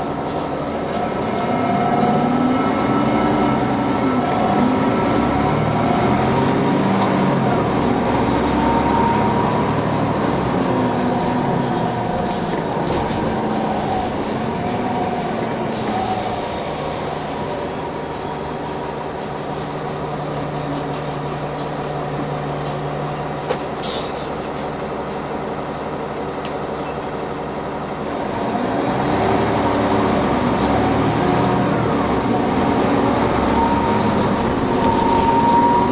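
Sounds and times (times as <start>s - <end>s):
bus engine running: 0.0s - 35.9s.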